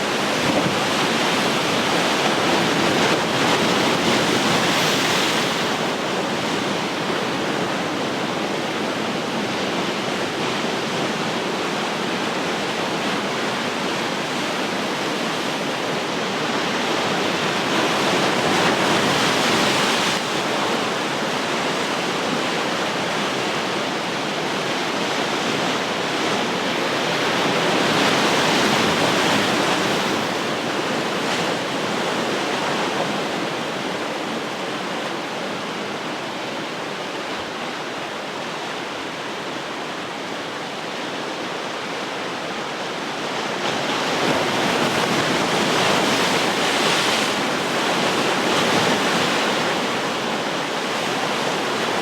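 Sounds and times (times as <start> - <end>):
ocean surf washing ashore: 0.0 - 52.0.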